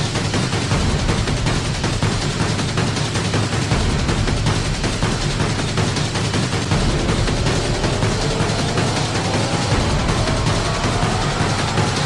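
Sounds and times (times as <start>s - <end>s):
loud music with heavy drums: 0.0s - 12.0s.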